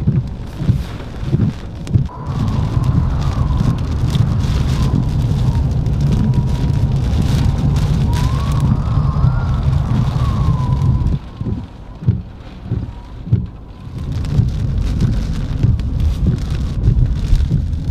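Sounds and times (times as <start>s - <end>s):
heavy rain and wind rumble: 0.0s - 17.9s
wavering wind whistle: 2.1s - 16.9s.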